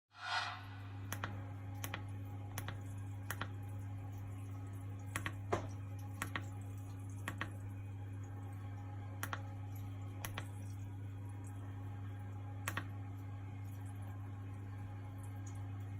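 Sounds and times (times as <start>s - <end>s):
steady low hum: 0.2s - 15.9s.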